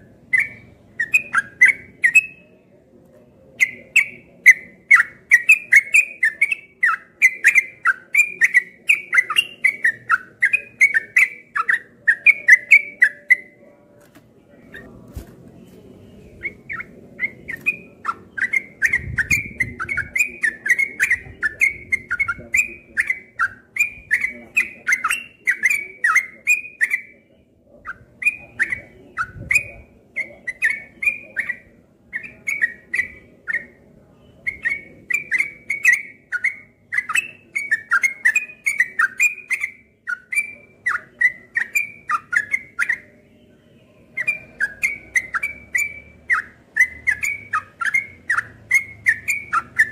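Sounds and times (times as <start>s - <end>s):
bulbul singing chattering whistles: 0.0s - 2.5s, 3.6s - 13.6s, 15.6s - 27.2s, 27.8s - 49.9s.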